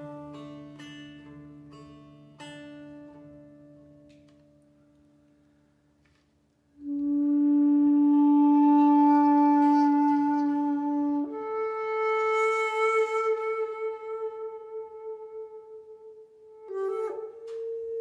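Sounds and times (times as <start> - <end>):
long low held note: 0.0 - 3.7, 6.8 - 18.0.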